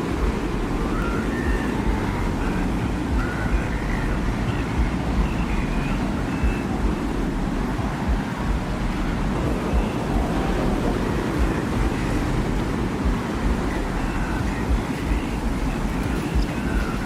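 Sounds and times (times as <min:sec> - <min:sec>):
deep wind rumble: 0:00.0 - 0:17.0
faint whistling tones: 0:00.0 - 0:17.0.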